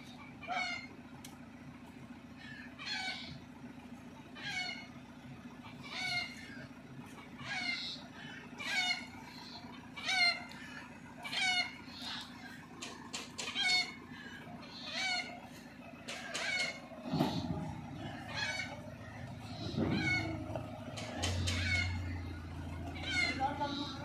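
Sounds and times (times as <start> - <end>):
steady low hum: 0.0 - 24.0
animal calling: 2.4 - 3.5, 5.6 - 24.0.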